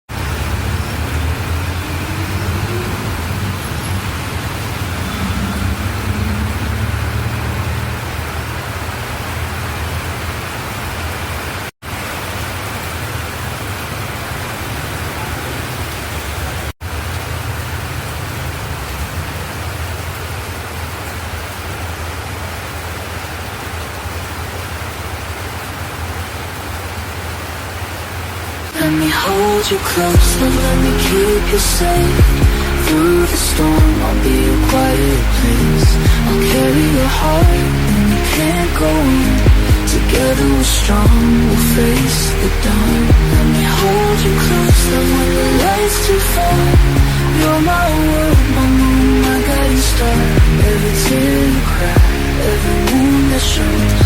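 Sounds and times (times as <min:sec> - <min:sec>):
car road and engine noise: 0:00.1 - 0:54.0.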